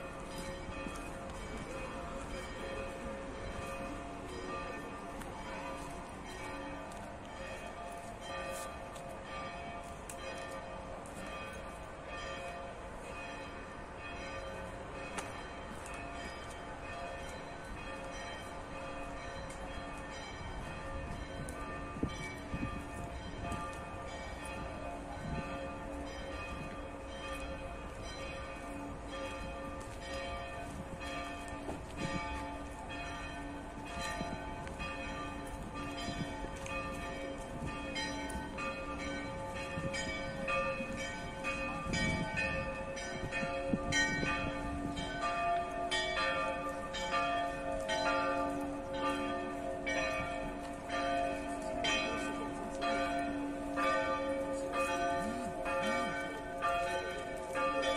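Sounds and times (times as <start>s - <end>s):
church bells pealing: 0.0s - 57.9s.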